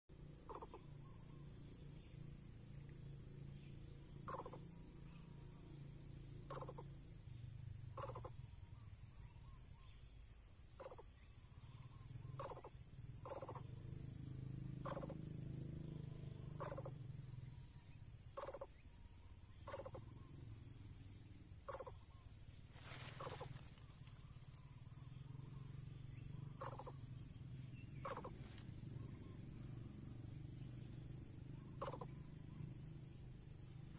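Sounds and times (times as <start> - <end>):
high insect drone: 0.1 - 33.9.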